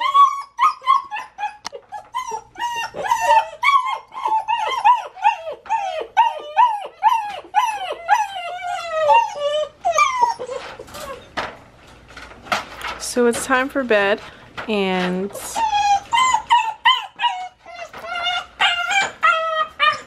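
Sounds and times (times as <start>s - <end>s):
puppies whining and crying: 0.0s - 12.3s, 15.2s - 20.0s.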